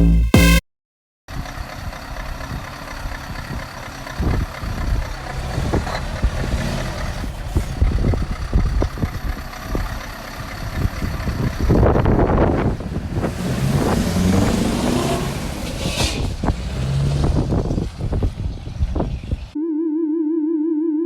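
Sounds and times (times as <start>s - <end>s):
diesel truck engine running: 1.3s - 19.6s.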